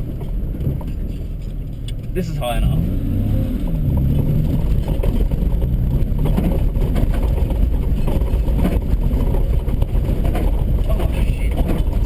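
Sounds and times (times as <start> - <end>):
car engine revving: 1.8 - 12.0.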